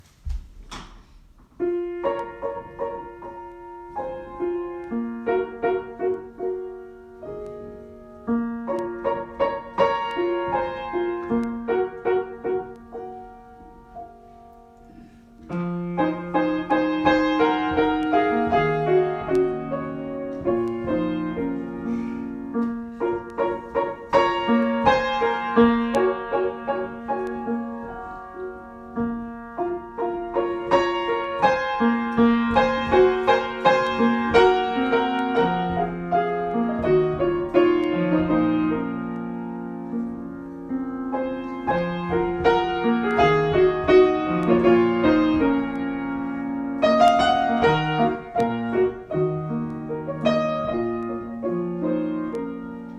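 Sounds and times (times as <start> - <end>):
solo piano: 0.0 - 52.9.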